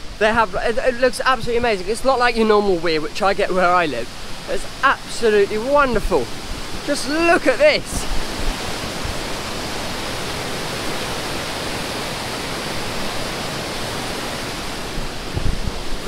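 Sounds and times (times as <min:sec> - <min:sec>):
river water rushing over weir: 0:00.0 - 0:16.0.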